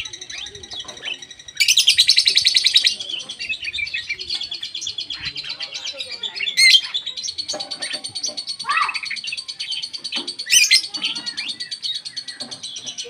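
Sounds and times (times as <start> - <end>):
songbird chattering calls: 0.0 - 13.0.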